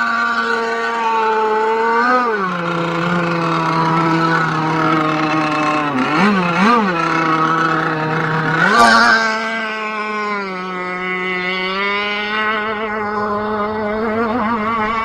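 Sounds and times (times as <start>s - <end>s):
model boat engine whining: 0.0s - 15.0s.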